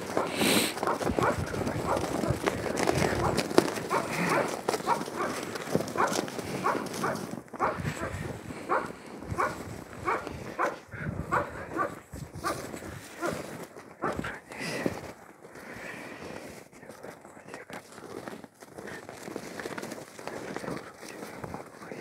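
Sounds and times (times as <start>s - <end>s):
footsteps crunching in snow: 0.0s - 22.0s.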